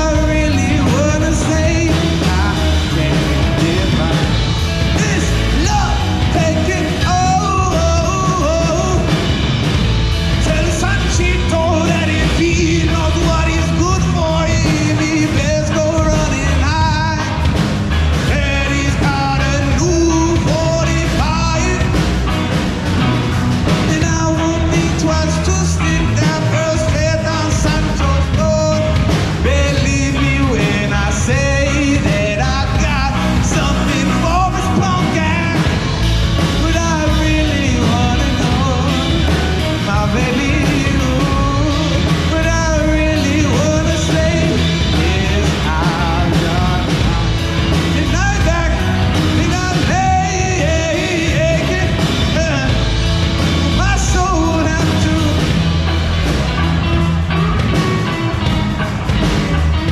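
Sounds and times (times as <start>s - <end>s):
man singing: 0.0s - 23.0s, 23.6s - 55.8s
rock band playing loud: 0.0s - 59.9s.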